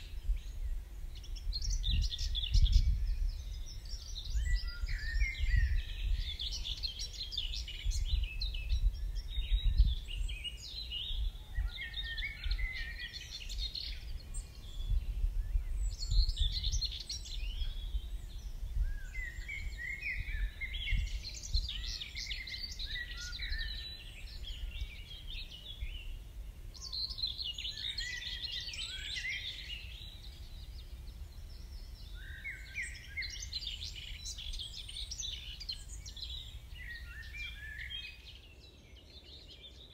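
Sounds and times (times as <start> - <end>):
wind rumble on microphone: 0.0 - 39.8
songbirds singing: 0.0 - 39.9.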